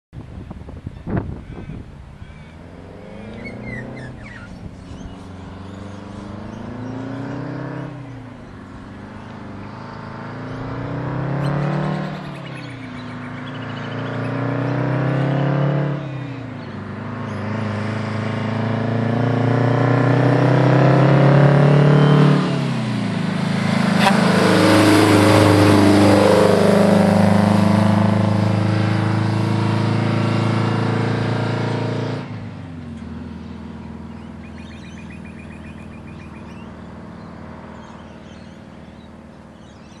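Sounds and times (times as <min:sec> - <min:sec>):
truck diesel engine accelerating: 0:01.9 - 0:40.0.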